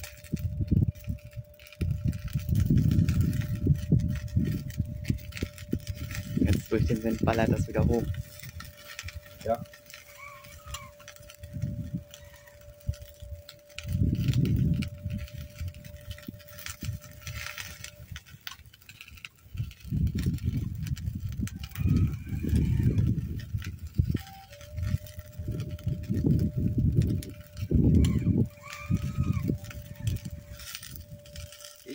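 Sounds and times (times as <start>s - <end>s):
thin steady hum: 0.0s - 31.9s
wind buffeting microphone: 0.0s - 31.9s.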